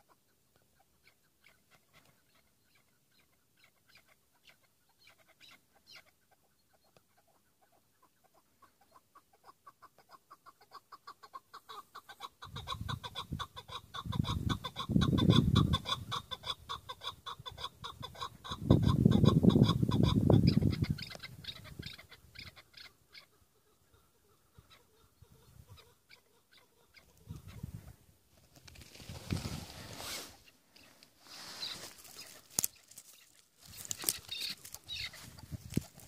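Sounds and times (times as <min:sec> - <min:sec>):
partridge clucking calls: 0:00.0 - 0:28.0, 0:30.3 - 0:36.0.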